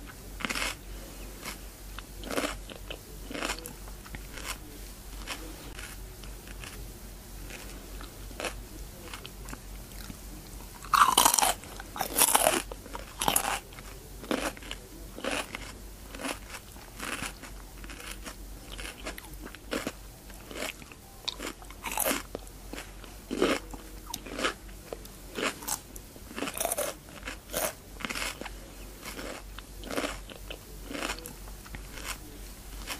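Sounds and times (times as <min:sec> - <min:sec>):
person chewing cucumber: 0:00.0 - 0:06.8, 0:07.4 - 0:32.9.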